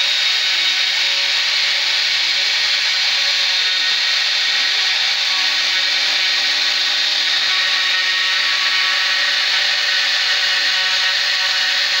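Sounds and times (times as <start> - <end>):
cnc router spindle whine: 0.0 - 12.0
end mill cutting wood: 0.0 - 12.0.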